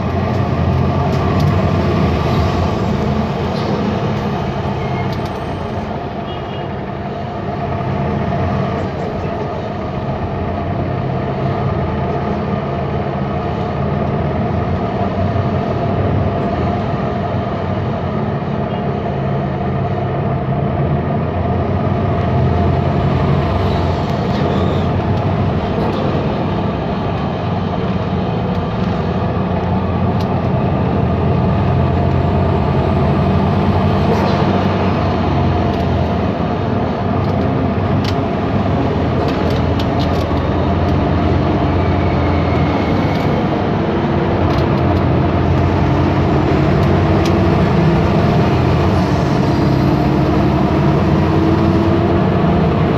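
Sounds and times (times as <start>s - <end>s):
bus engine humming: 0.0s - 52.9s
road noise: 0.0s - 52.9s.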